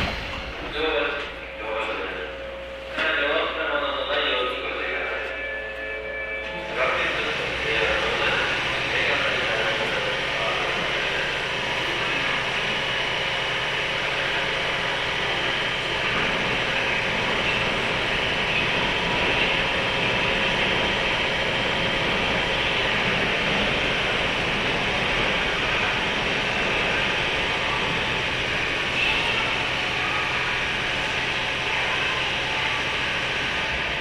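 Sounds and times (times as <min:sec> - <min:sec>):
train wheel and rail rumble: 0:00.0 - 0:34.0.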